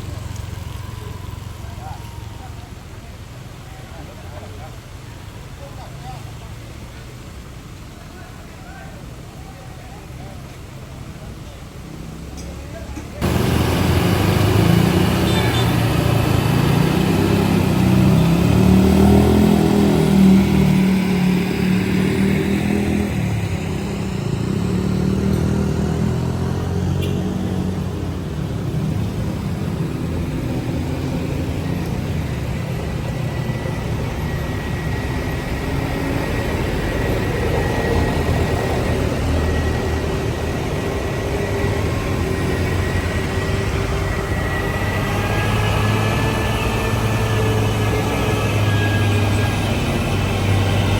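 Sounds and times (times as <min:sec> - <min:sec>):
vehicle engines running: 0:00.0 - 0:50.9.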